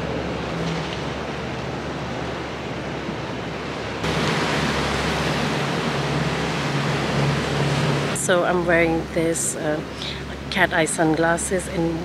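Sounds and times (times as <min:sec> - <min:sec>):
sea waves: 0:00.0 - 0:12.0
wind: 0:00.0 - 0:12.0.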